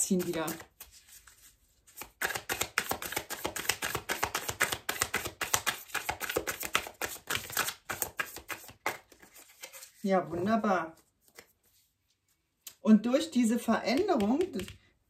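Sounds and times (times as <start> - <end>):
cards being shuffled: 0.0 - 12.8.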